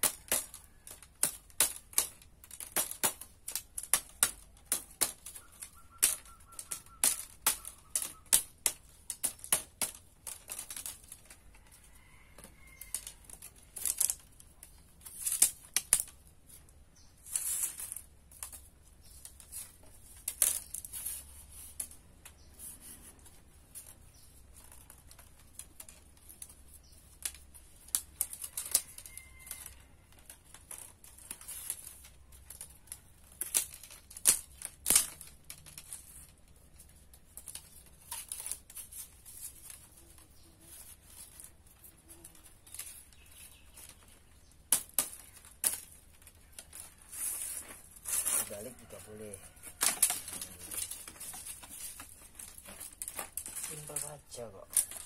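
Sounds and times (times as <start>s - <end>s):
bamboo strips clicking: 0.0s - 55.0s.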